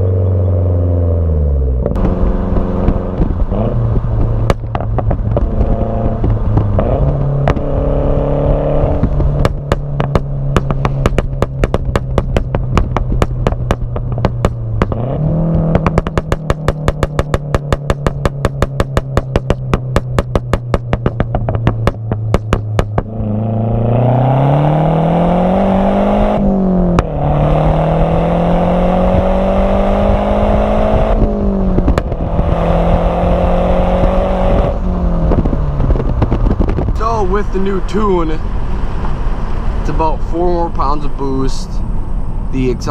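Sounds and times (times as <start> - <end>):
car engine accelerating: 0.0 - 42.9
exhaust popping and crackling: 0.0 - 42.9.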